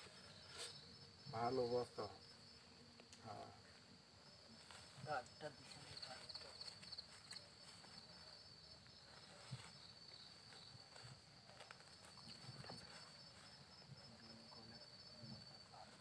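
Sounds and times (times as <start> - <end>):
night insects buzzing: 0.0 - 16.0.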